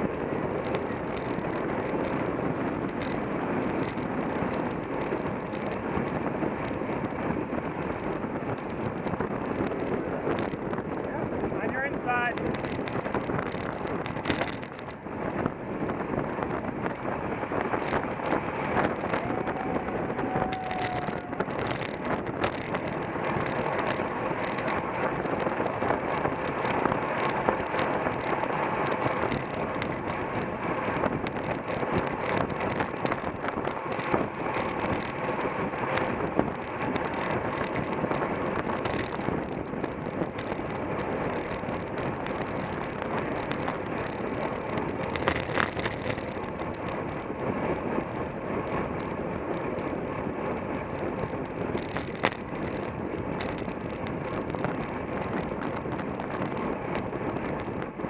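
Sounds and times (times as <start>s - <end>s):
bicycle running noise: 0.0s - 58.0s
wind rushing over microphone: 0.0s - 58.0s.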